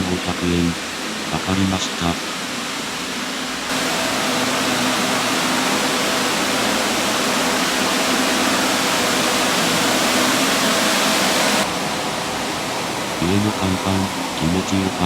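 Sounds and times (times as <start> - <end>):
faint ship engine hum: 0.0 - 15.0.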